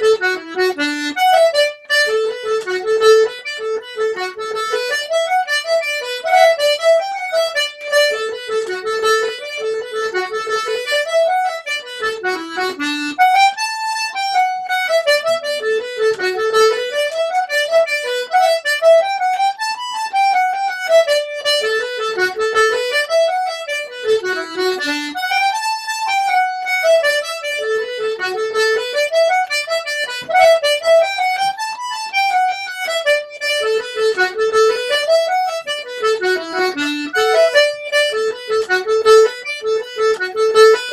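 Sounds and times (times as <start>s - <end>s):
button accordions playing a reel: 0.0s - 40.9s.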